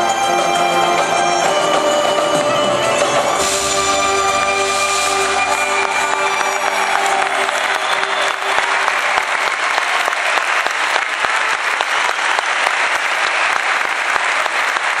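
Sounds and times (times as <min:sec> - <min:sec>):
audience applauding: 0:01.4 - 0:15.0.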